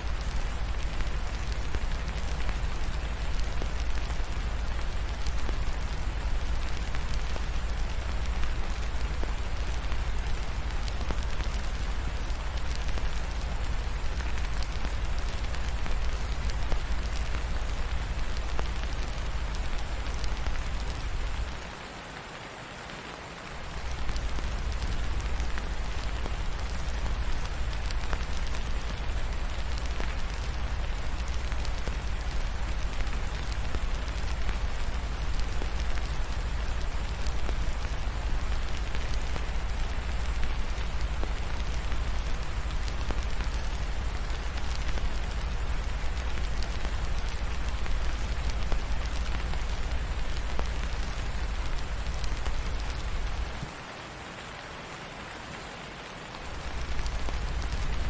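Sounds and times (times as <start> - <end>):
fireplace crackling: 0.0 - 22.0, 23.4 - 53.8, 56.4 - 58.0
steady rain: 0.0 - 58.0.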